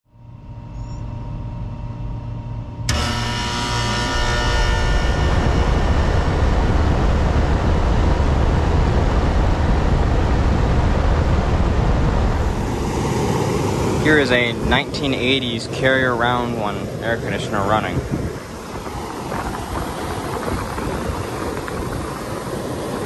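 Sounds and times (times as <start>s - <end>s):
air conditioner running: 0.1s - 23.0s
low hum: 0.1s - 23.0s.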